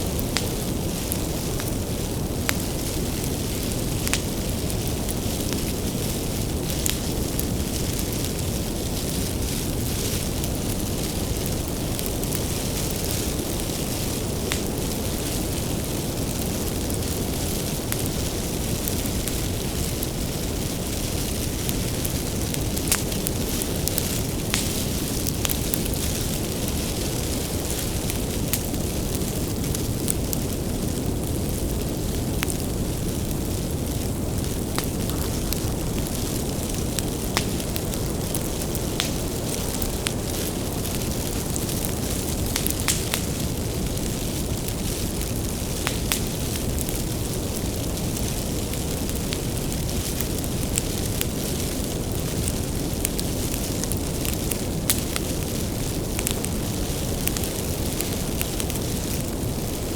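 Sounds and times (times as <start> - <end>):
bonfire flames rumbling: 0.0 - 59.9
firewood crackling and popping: 0.0 - 59.9.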